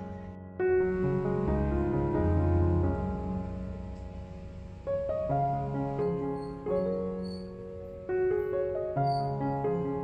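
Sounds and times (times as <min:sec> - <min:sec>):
instrumental keyboard music: 0:00.0 - 0:10.0.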